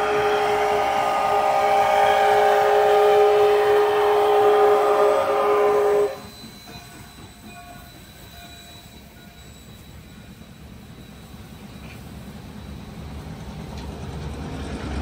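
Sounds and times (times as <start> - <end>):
steam locomotive whistle: 0.0 - 12.1.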